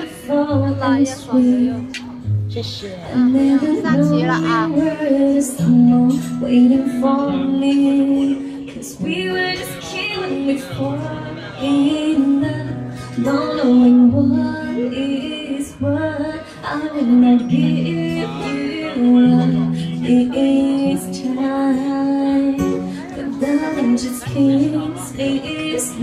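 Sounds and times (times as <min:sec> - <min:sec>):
woman singing slow song: 0:00.0 - 0:02.3, 0:03.0 - 0:26.0
guitar accompaniment: 0:00.0 - 0:26.0.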